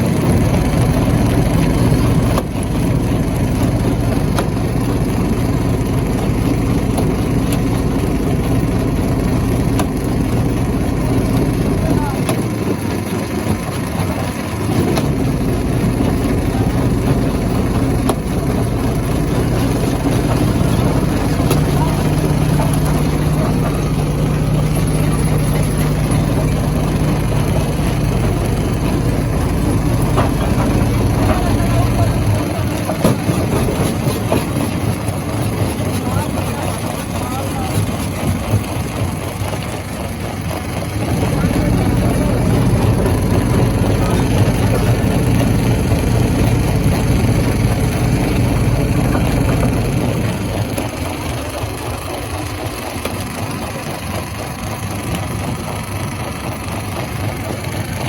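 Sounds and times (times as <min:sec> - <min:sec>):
stone crusher droning: 0:00.0 - 0:58.0.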